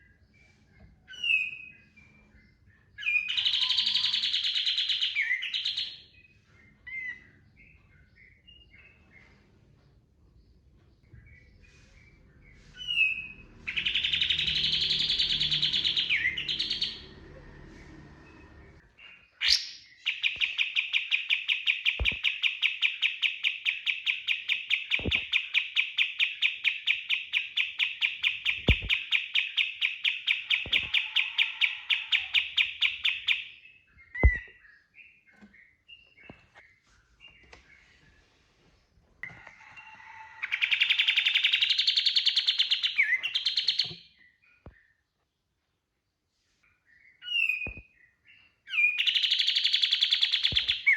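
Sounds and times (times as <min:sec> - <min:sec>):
songbird singing: 0:00.0 - 0:09.4, 0:10.2 - 0:38.2, 0:39.3 - 0:45.5, 0:46.7 - 0:50.9.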